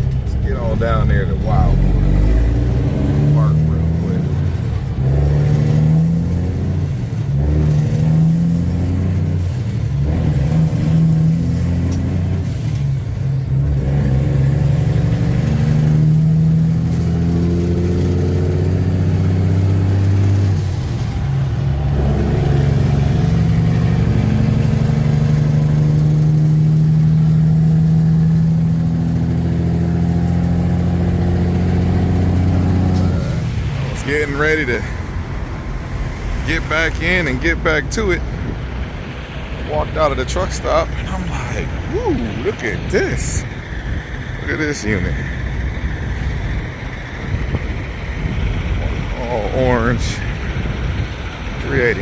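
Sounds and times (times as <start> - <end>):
diesel truck engine accelerating: 0.0 - 52.0.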